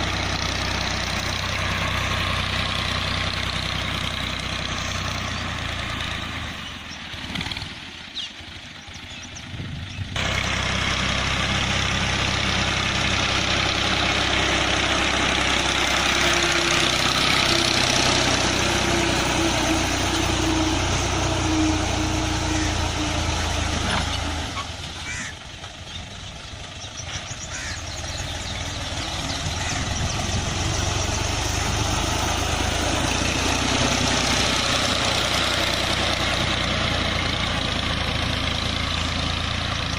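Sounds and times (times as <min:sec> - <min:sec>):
farm machinery noise: 0:00.0 - 0:39.9
tractor engine running: 0:00.0 - 0:39.9.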